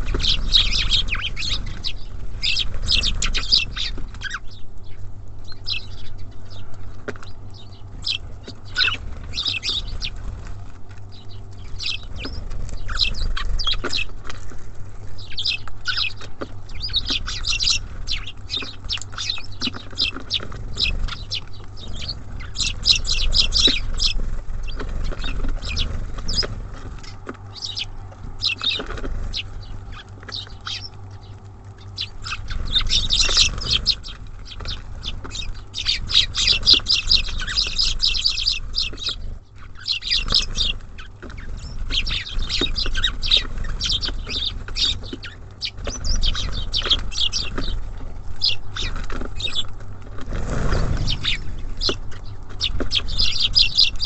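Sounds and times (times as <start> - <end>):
small songbirds chirping: 0.0 - 54.0
steady low rumble: 0.0 - 54.0.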